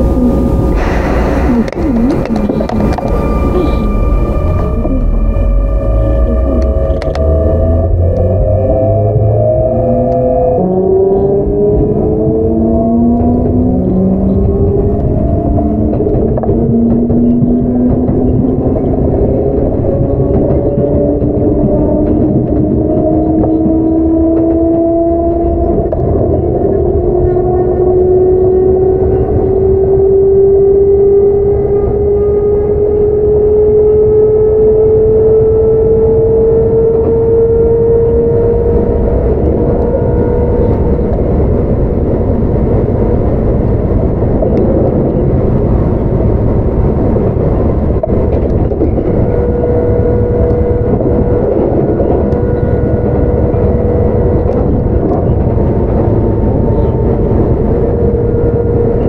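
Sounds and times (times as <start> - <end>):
train motor whine: 0.0 - 59.0
wheels rumbling on rail: 0.0 - 59.0.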